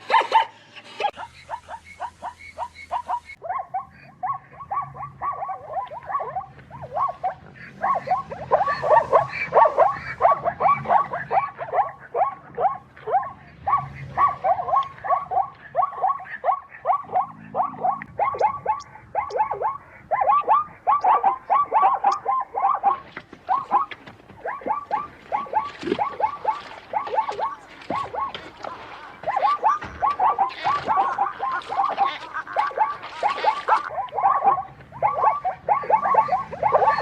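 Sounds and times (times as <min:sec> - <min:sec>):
zebra barking: 0:00.0 - 0:37.0.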